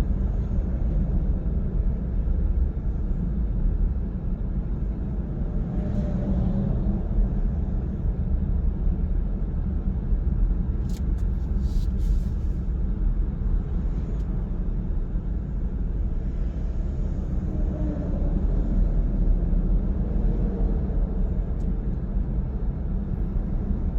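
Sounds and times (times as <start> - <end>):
road and tyre rumble: 0.0 - 23.9.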